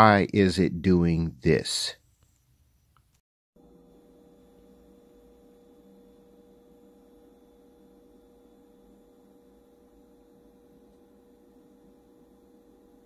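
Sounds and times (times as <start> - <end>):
faint electrical hum of inverter: 0.0 - 13.0.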